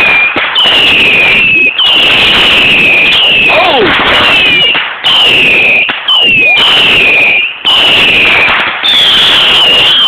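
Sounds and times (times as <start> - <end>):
whistling fireworks launching: 0.0 - 10.0.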